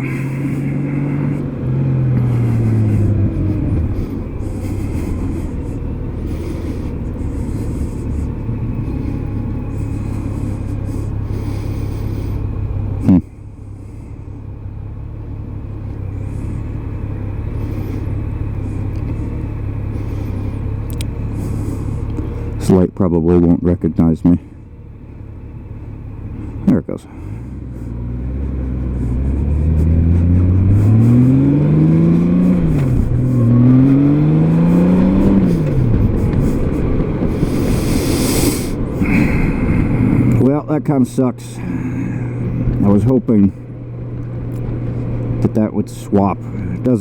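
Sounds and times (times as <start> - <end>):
motorcycle engine rumbling: 0.0 - 47.0.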